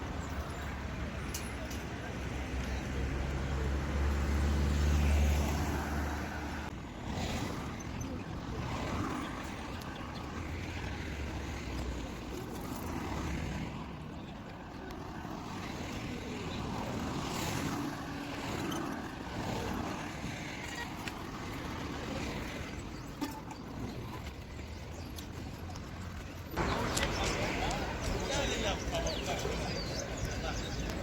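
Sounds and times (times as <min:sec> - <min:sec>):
passing vehicle traffic: 0:00.0 - 0:31.0.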